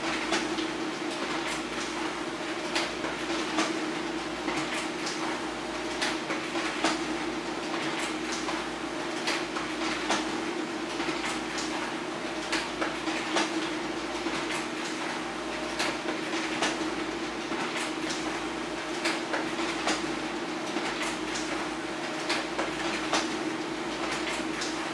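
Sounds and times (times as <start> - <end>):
printer clicks and clacks: 0.0 - 24.9
printer motor hum: 0.0 - 24.9.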